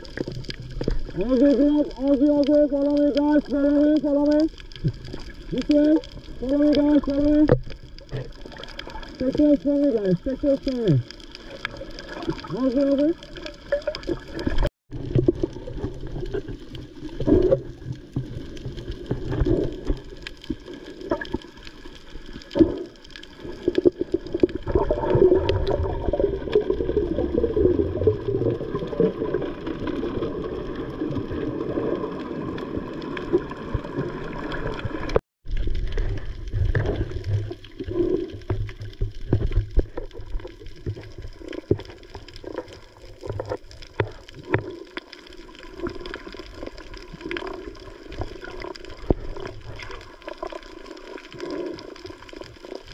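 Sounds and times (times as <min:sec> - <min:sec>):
underwater water sloshing and bubbling: 0:00.0 - 0:52.9.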